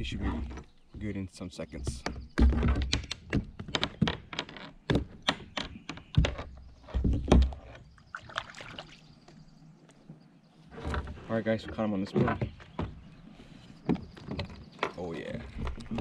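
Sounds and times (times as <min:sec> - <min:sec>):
clicks and knocks in a boat: 0:00.0 - 0:10.0, 0:10.7 - 0:16.0.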